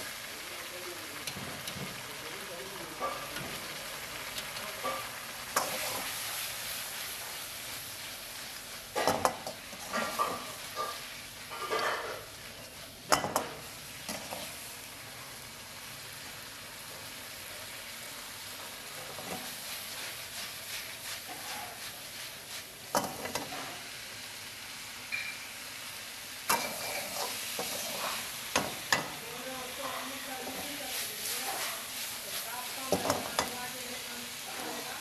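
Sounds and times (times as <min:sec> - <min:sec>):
chicken sizzling in wok: 0:00.0 - 0:35.0.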